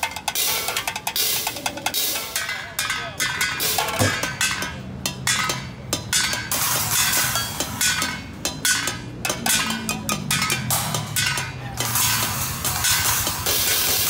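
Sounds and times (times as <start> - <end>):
cymbals ringing: 0.0 - 14.0
drumsticks hitting pots and pans: 0.0 - 14.0.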